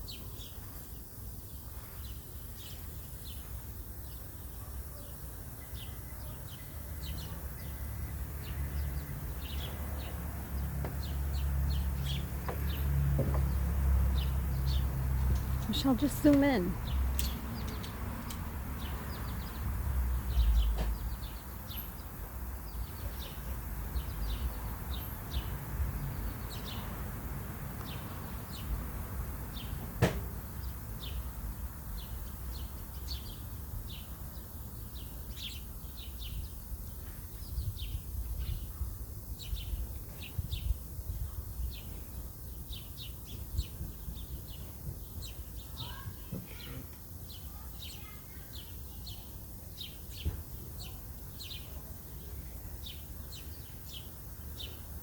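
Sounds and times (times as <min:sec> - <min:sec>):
small birds chirping: 0:00.0 - 0:27.2, 0:30.4 - 0:55.0.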